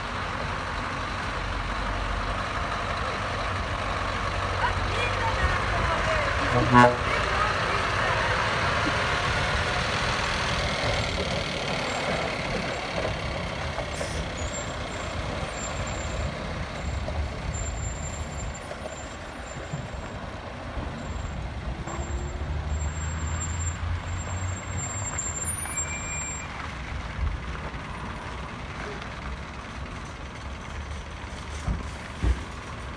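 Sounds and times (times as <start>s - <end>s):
truck engine rumble: 0.0s - 32.9s.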